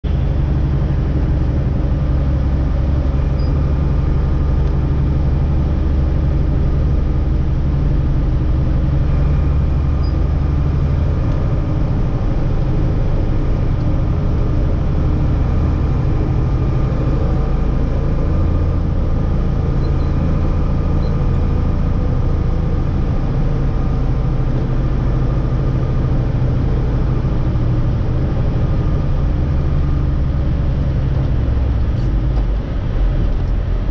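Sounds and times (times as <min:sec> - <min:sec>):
diesel truck engine droning: 0:00.0 - 0:33.9.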